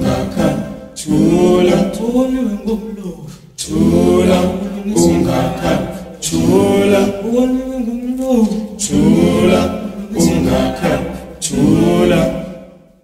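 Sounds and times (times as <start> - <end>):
a cappella singing: 0.0 - 13.0.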